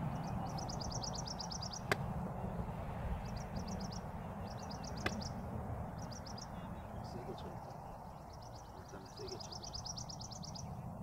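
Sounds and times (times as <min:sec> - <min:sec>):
low outdoor background noise: 0:00.0 - 0:11.0
songbird trilling chirps: 0:00.0 - 0:11.0.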